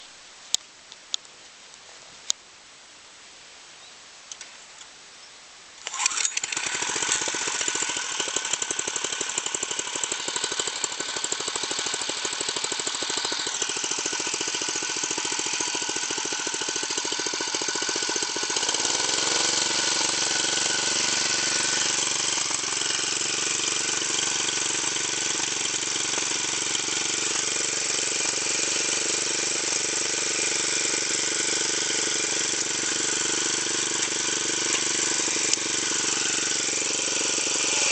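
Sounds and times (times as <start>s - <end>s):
single-cylinder engine running: 5.8s - 37.9s.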